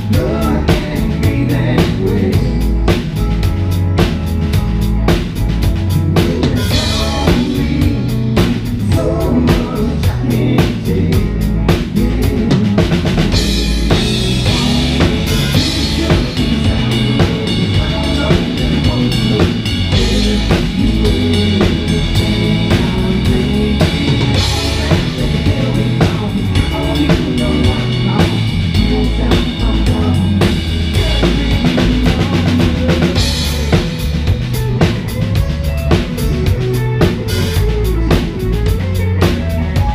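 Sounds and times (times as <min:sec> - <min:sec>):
live band playing: 0:00.0 - 0:39.9
sustained guitar: 0:00.0 - 0:39.9.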